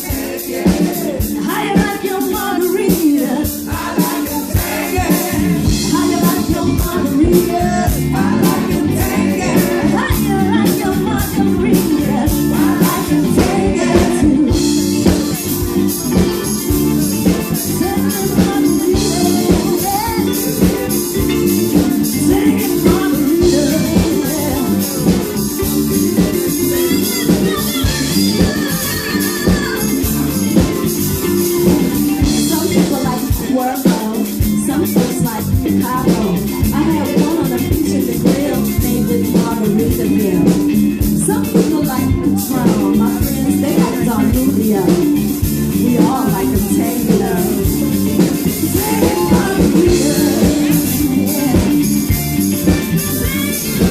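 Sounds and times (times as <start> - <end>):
live band playing upbeat song: 0.0 - 53.9
person singing: 0.0 - 53.9.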